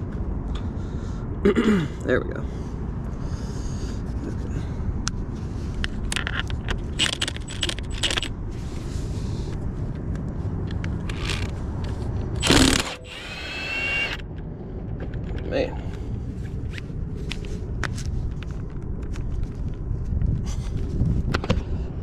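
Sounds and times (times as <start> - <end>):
steady low background noise: 0.0 - 22.0.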